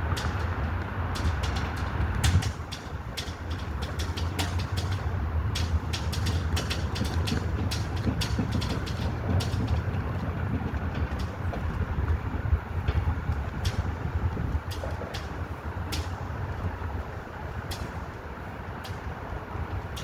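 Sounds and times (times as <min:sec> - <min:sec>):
flags flapping and snapping: 0:00.0 - 0:20.0
wind buffeting microphone: 0:00.0 - 0:20.0.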